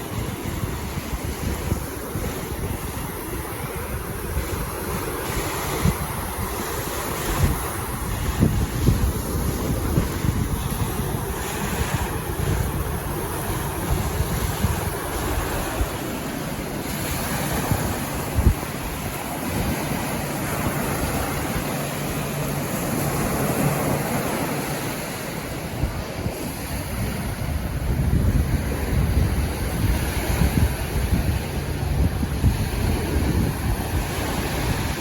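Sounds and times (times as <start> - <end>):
small waves washing onto beach: 0.0 - 35.0
wind buffeting microphone: 0.0 - 35.0.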